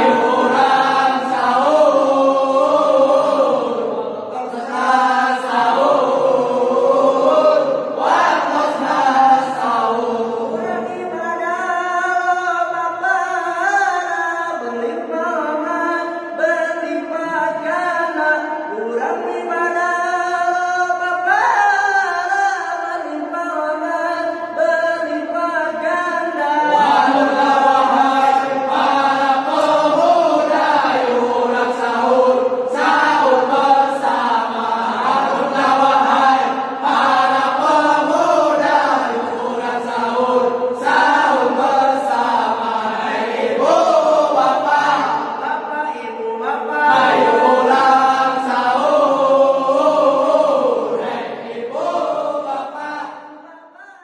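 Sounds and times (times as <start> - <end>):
young men chanting in unison: 0.0 - 53.8.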